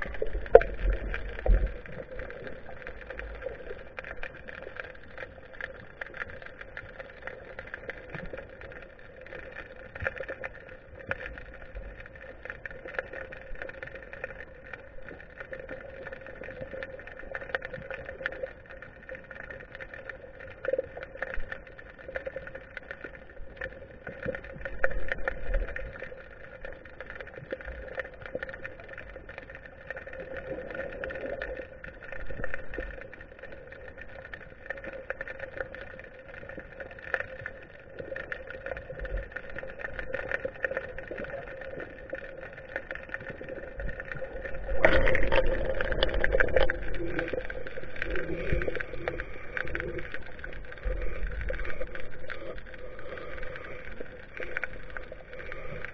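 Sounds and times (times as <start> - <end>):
underwater hum: 0.0 - 55.9
water noise: 0.0 - 55.9.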